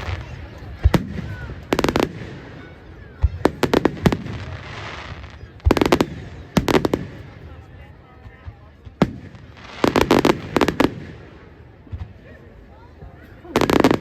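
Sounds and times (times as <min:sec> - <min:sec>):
fireworks crackling pops: 0:00.0 - 0:02.6, 0:03.2 - 0:07.5, 0:08.2 - 0:12.2, 0:13.5 - 0:14.0.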